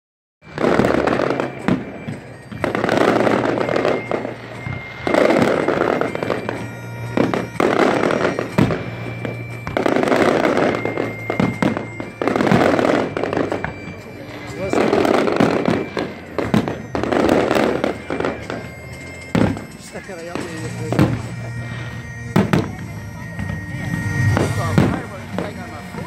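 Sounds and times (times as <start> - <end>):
fireworks bangs: 0.4 - 26.0
fireworks crackling: 0.4 - 26.0.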